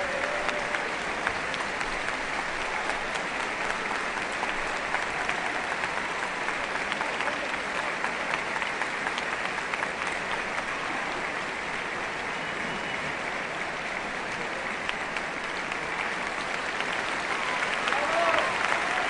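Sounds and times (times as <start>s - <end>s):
large audience applauding: 0.0s - 19.0s.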